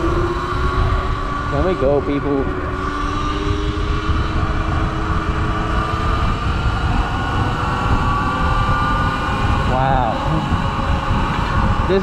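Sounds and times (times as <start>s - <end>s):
electric motor whine: 0.0s - 12.0s
wind noise on microphone: 0.0s - 12.0s.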